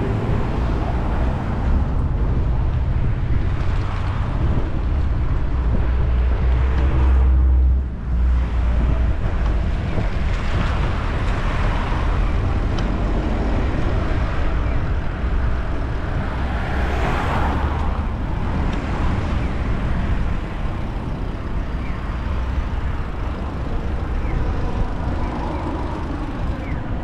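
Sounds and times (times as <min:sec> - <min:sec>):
road traffic: 0:00.0 - 0:27.0
wind rumbling on microphone: 0:00.0 - 0:27.0.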